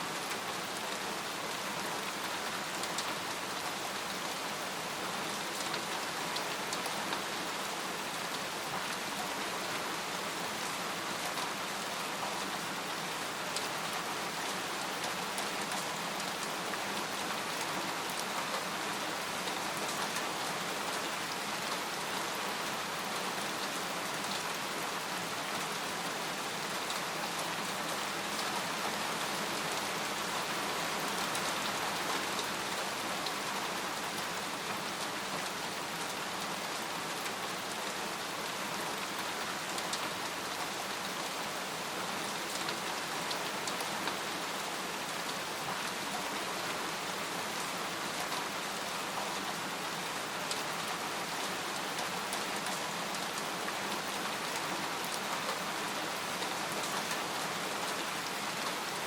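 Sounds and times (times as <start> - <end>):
rain on a tent: 0.0 - 59.0.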